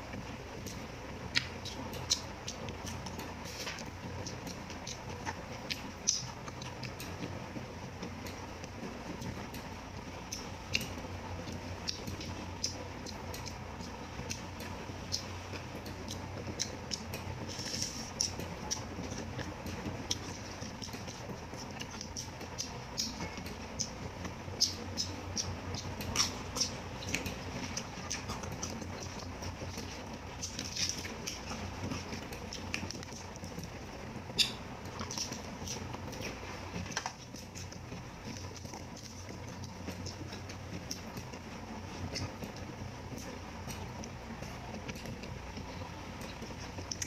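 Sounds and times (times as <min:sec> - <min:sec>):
chewing and crunching greens: 0:00.0 - 0:47.0
low steady hum: 0:00.0 - 0:47.0.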